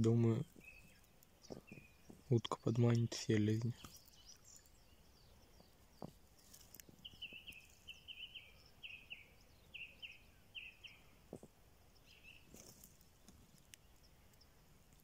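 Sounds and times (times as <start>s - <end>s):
faint bird calls: 0.0s - 14.7s.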